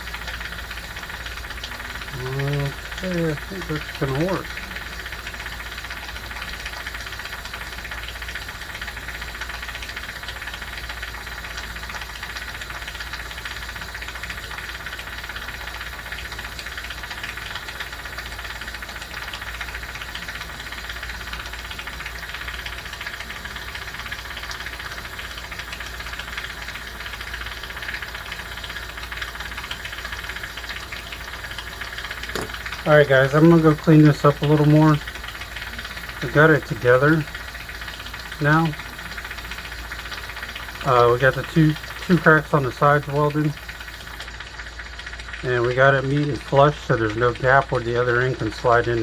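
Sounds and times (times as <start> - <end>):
constant hiss: 0.0 - 49.0
low electrical hum: 0.0 - 49.0.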